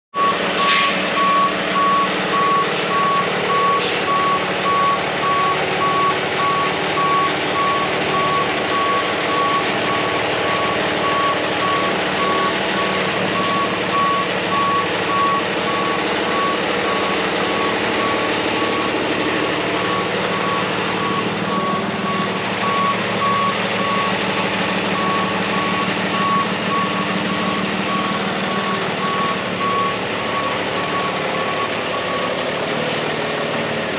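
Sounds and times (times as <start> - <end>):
truck backup alarm beeping: 0.1 - 33.9
truck engine running: 0.1 - 33.9.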